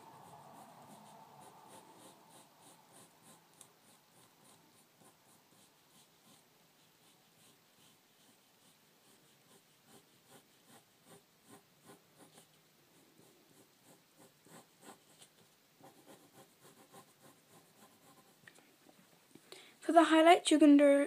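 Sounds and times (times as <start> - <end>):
pencil scratching on paper: 0.0 - 18.4.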